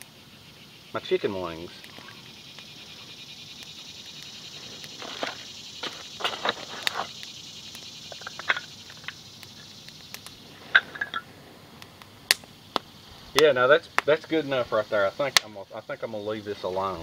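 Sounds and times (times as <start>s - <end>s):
faint high hiss: 0.0s - 17.0s
wood fire crackling and popping: 0.9s - 17.0s.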